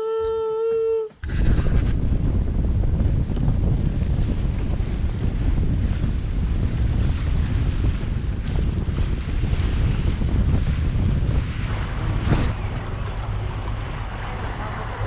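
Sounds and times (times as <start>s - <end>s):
waves washing against hull: 1.1s - 15.0s
wind buffeting microphone: 1.2s - 15.0s.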